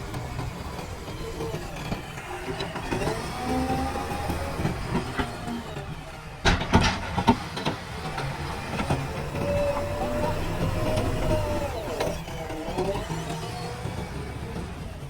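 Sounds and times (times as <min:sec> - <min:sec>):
diesel engine running: 0:00.0 - 0:15.0
hydraulic whine: 0:00.0 - 0:15.0.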